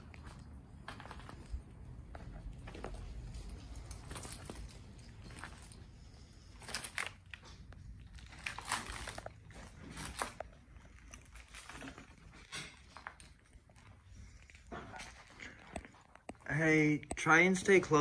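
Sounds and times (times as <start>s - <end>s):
footsteps crunching on debris: 0.0s - 16.5s.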